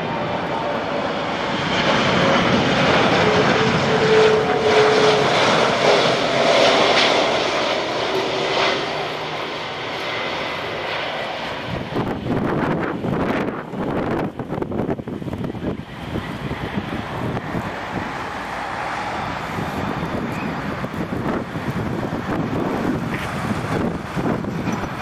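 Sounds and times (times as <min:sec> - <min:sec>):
jet engine whine: 0:00.0 - 0:25.0
jet engines roaring: 0:00.0 - 0:25.0.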